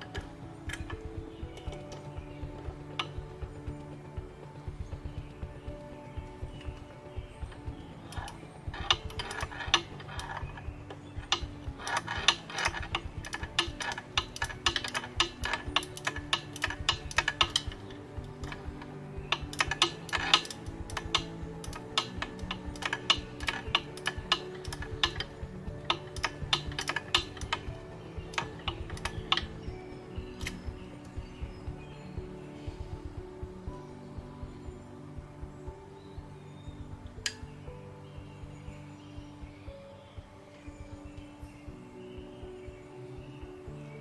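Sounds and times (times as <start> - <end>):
background music: 0.0 - 44.0.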